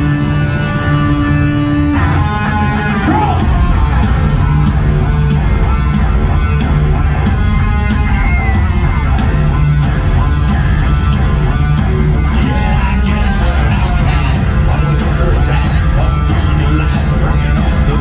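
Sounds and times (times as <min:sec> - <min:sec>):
hard rock band playing live: 0:00.0 - 0:18.0.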